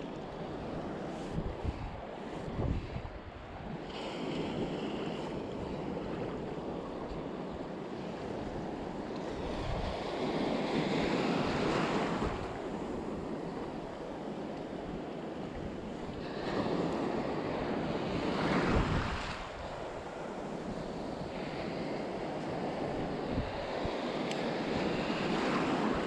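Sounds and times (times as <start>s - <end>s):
sea waves washing and surging: 0.0s - 26.0s
wind buffeting microphone: 0.0s - 26.0s.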